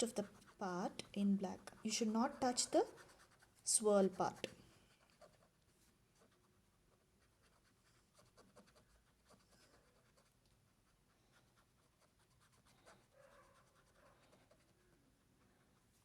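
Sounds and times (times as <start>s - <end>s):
pen scratching on paper: 0.0s - 16.0s.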